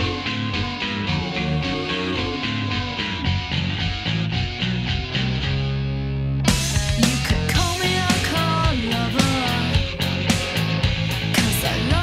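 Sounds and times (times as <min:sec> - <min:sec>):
rock band with electric guitar: 0:00.0 - 0:12.0.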